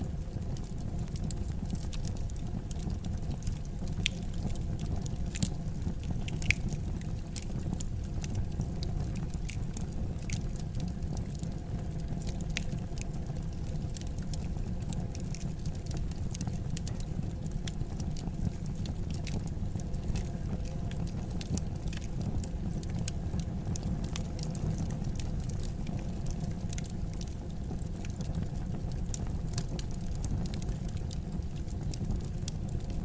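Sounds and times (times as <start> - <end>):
fireplace fire crackling: 0.0 - 33.0.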